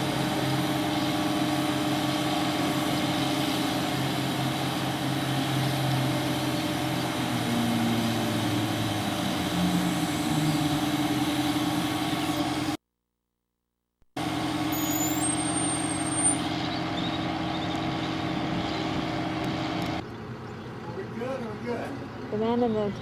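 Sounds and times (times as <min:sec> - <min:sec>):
heavy engine running: 0:00.0 - 0:12.8, 0:14.2 - 0:23.0.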